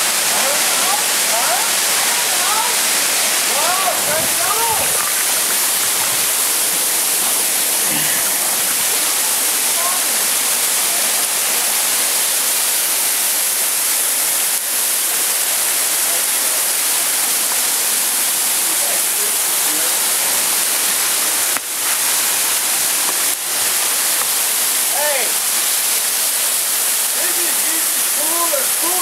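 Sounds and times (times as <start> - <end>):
water splashing over boulders: 0.0 - 29.0.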